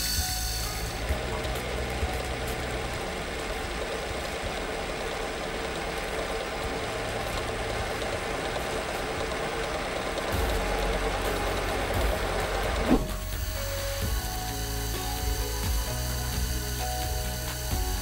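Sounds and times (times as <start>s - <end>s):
lathe cutting metal chips: 0.0s - 18.0s
lathe motor hum: 0.0s - 18.0s.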